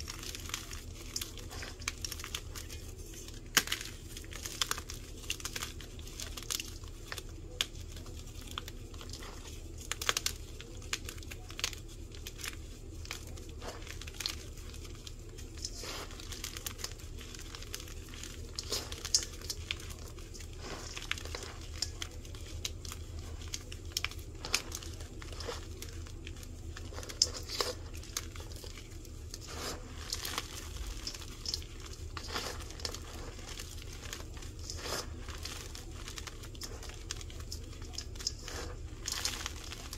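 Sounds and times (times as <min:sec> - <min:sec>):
gritty powder crumbling: 0:00.0 - 0:39.9.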